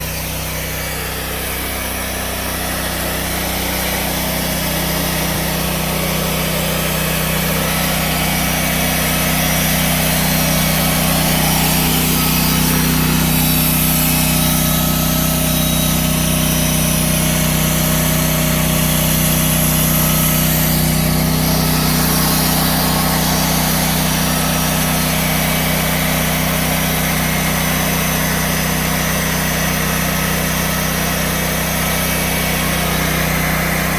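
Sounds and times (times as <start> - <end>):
sawmill engine humming: 0.0 - 33.9.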